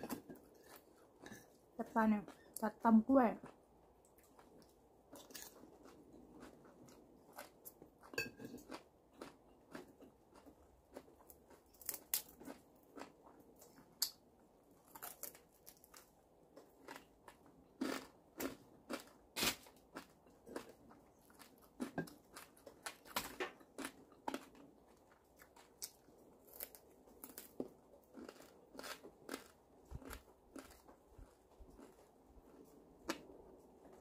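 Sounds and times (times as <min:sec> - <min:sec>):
person chewing crunchy food: 0:00.0 - 0:02.6, 0:03.4 - 0:34.0.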